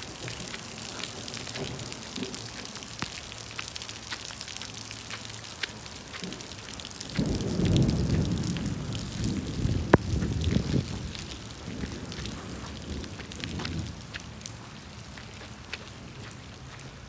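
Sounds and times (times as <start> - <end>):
rain hiss: 0.0 - 17.0
raindrop taps: 0.0 - 17.0.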